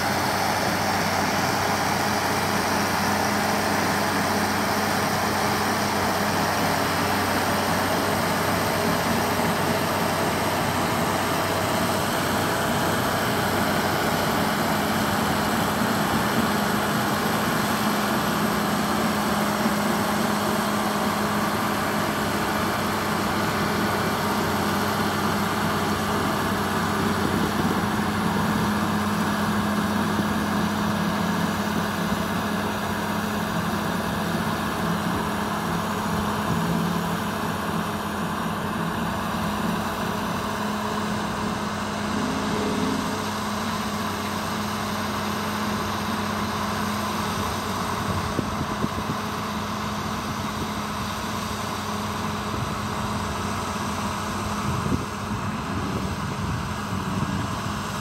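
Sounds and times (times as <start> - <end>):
road roller diesel engine: 0.0 - 58.0.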